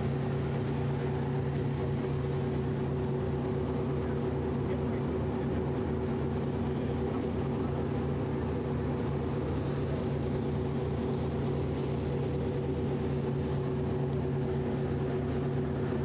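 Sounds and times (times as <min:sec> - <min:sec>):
water rushing along hull: 0:00.0 - 0:16.0.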